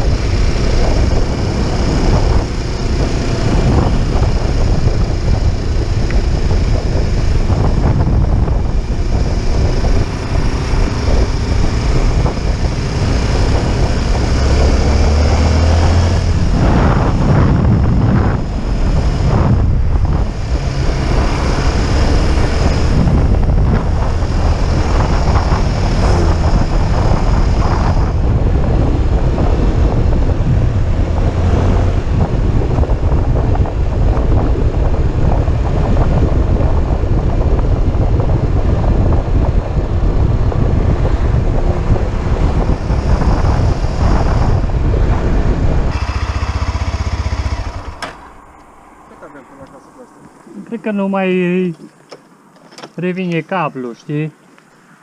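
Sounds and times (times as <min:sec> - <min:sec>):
motorcycle engine running: 0:00.0 - 0:50.4
wind buffeting microphone: 0:00.0 - 0:55.0.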